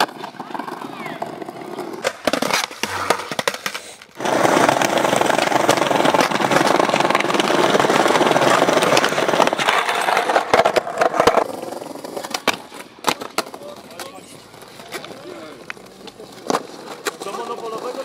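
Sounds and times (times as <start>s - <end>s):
skateboard clacks on concrete: 0.0s - 18.0s
skateboard wheels rolling over paving: 0.0s - 18.0s.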